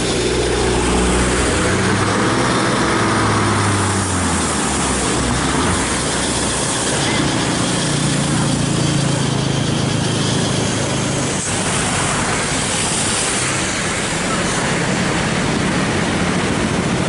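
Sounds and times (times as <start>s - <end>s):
traffic hiss on wet road: 0.0s - 17.0s.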